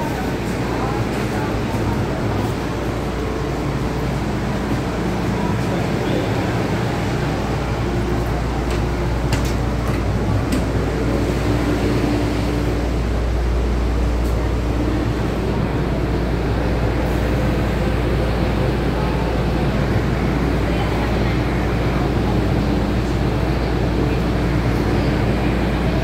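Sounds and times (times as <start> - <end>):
train air-conditioning hum: 0.0 - 26.0.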